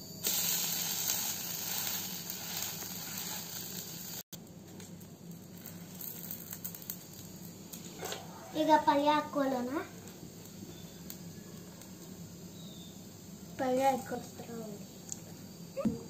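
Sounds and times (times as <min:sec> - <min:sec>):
batter sizzling on hot pan: 0:00.0 - 0:15.8.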